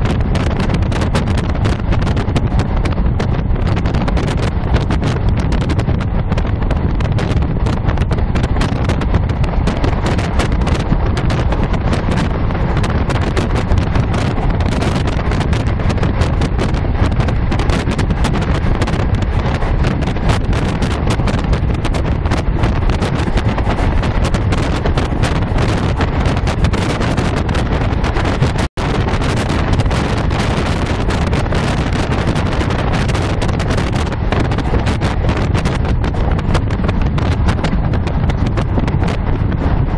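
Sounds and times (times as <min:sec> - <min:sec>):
diesel train rumbling: 0:00.0 - 0:39.9
wind noise on microphone: 0:00.0 - 0:39.9.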